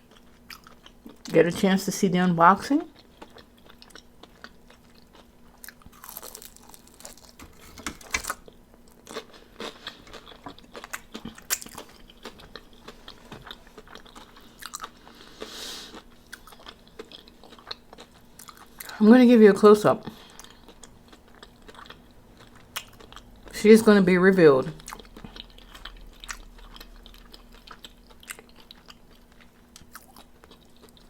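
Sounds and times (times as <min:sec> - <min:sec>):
person chewing crispy chicken: 0:00.1 - 0:01.2, 0:02.9 - 0:18.9, 0:20.0 - 0:23.6, 0:24.7 - 0:31.0.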